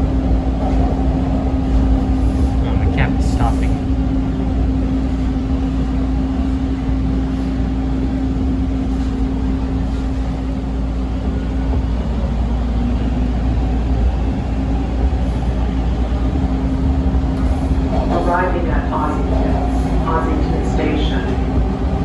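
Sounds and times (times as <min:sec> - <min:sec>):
subway train rumble and hum: 0:00.0 - 0:22.0.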